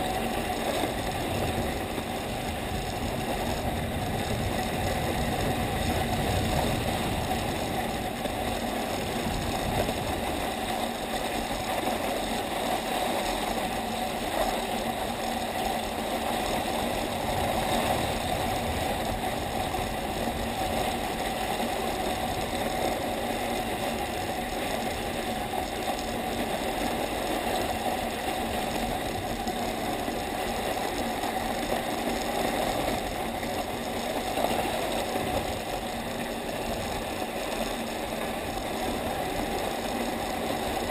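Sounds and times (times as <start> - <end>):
skis sliding over snow: 0.0 - 40.9.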